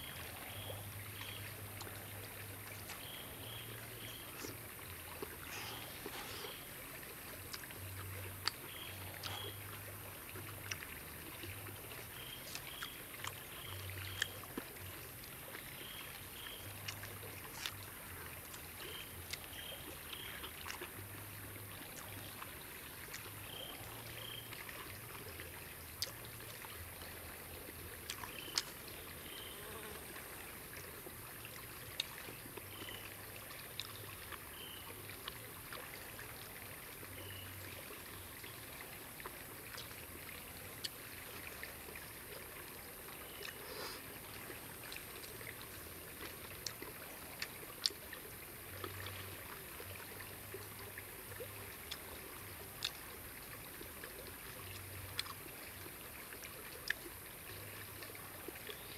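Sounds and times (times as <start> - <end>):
stream water running: 0.0 - 58.9.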